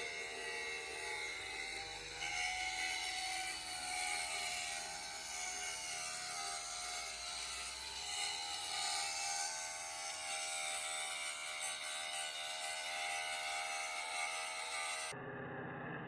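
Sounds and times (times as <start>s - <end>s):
power tool whining: 0.0s - 15.2s.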